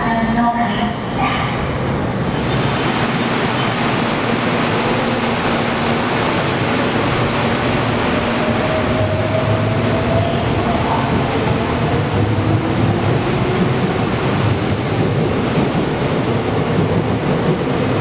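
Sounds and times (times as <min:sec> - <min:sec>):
subway train rushing rumble: 0:00.0 - 0:18.0.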